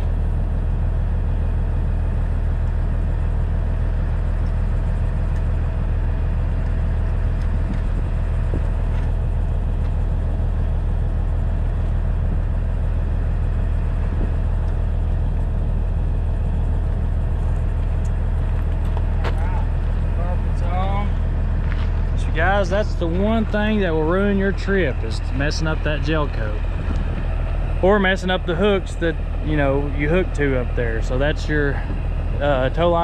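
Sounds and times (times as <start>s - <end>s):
diesel truck engine idling: 0.0s - 33.0s.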